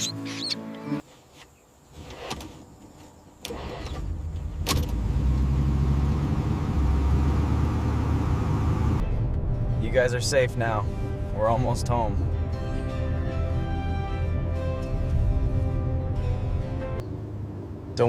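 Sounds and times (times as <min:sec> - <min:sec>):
car engine starting and running: 0:03.4 - 0:18.0.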